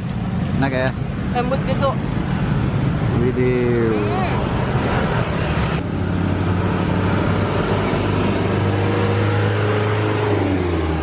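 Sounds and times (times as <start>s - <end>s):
traffic noise: 0.0s - 11.0s
vehicle engine humming: 0.0s - 11.0s.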